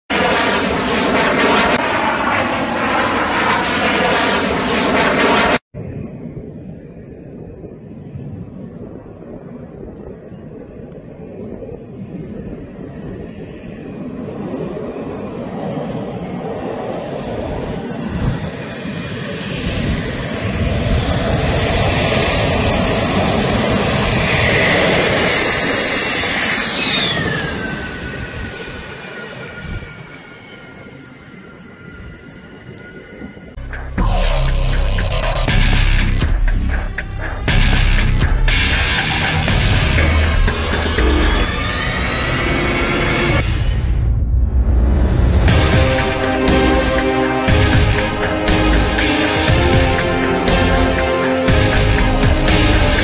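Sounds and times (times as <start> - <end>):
fighter jet flying overhead: 0.1 - 53.0.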